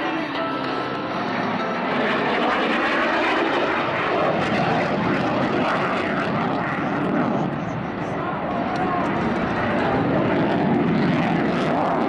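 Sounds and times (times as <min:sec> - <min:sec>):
airplane engine rushing: 0:00.0 - 0:12.0.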